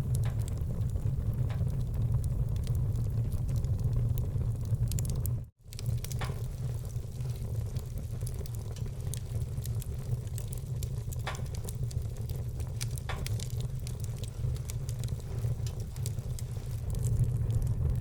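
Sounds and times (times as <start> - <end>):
loud fire pops: 0.0 - 18.0
wood fire burning: 0.0 - 18.0.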